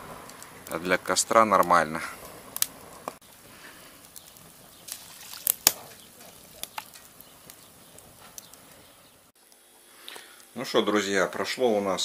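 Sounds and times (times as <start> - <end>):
firewood crackling and popping: 0.0 - 12.0.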